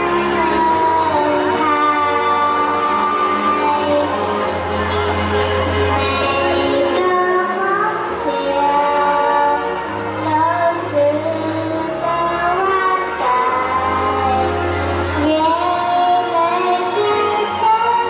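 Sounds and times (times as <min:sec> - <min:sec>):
woman singing: 0:00.0 - 0:04.5, 0:06.0 - 0:18.0
backing music with bass line: 0:00.0 - 0:18.0.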